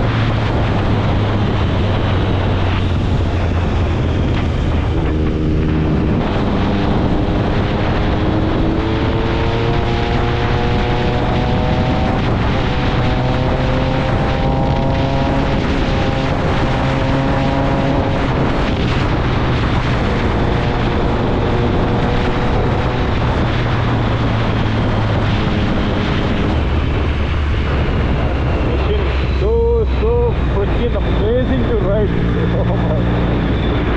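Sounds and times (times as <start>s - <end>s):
motorcycle engine revving: 0.0s - 33.9s
wind noise on microphone: 0.0s - 33.9s.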